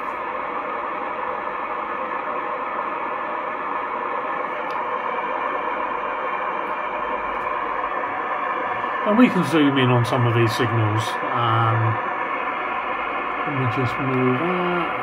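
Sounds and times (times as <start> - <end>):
faint steady radio tones: 0.0 - 15.0
radio band noise and hiss: 0.0 - 15.0.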